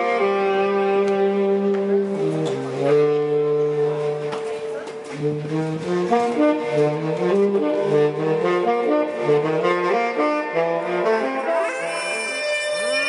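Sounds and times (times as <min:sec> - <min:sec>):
saxophone melody: 0:00.0 - 0:13.0.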